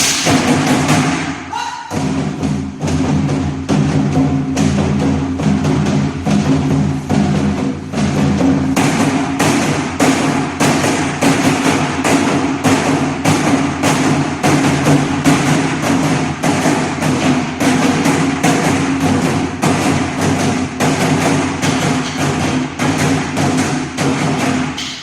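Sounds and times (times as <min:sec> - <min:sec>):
drums struck with sticks: 0:00.0 - 0:25.0.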